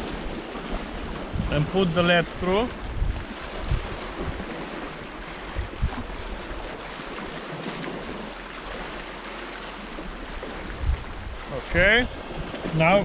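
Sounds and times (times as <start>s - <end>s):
wind buffeting microphone: 0.0s - 8.4s, 9.7s - 13.0s
surf washing against rocks: 0.0s - 13.0s.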